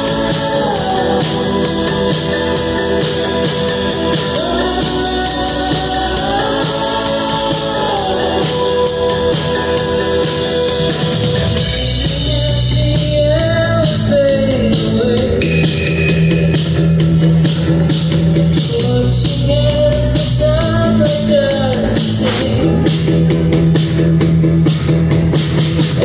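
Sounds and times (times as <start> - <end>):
woman singing: 0.0 - 15.7, 18.5 - 24.0
steady drum beat: 0.0 - 26.0.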